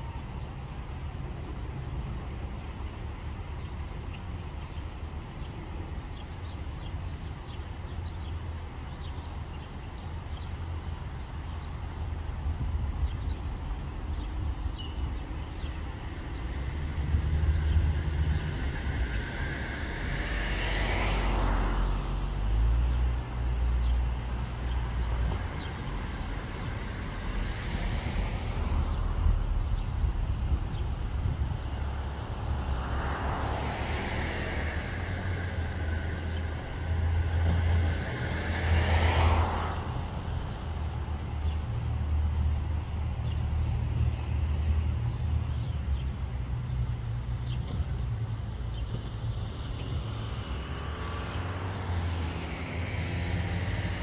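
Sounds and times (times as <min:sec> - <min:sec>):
steady low traffic rumble: 0:00.0 - 0:54.0
vehicles passing by: 0:00.0 - 0:54.0.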